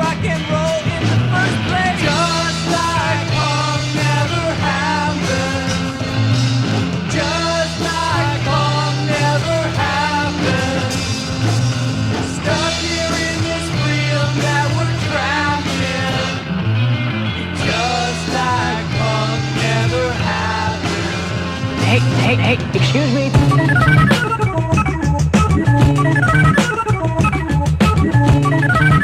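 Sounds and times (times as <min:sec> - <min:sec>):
rock music with singing: 0:00.0 - 0:29.0.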